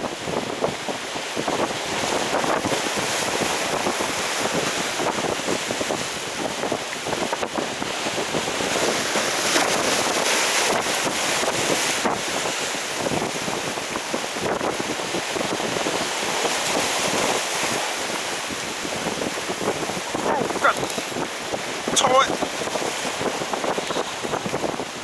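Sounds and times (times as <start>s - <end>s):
waves washing: 0.0s - 25.0s
wind on microphone: 0.0s - 25.0s.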